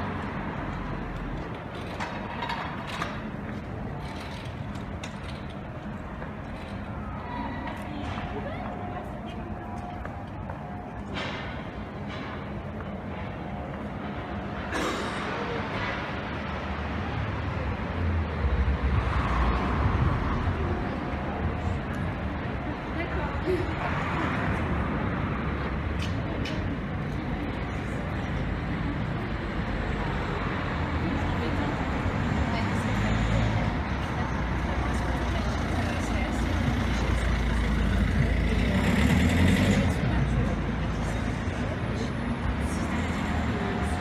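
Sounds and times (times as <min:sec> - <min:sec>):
passing vehicle rumble: 0:00.0 - 0:44.0
street background noise: 0:00.0 - 0:44.0.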